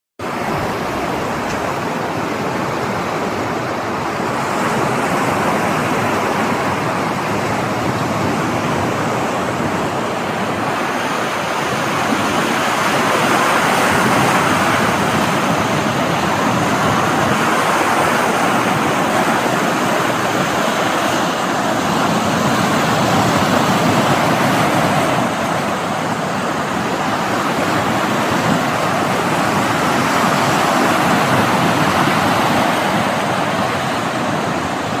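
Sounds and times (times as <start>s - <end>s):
sea waves washing on shore: 0.2s - 35.0s.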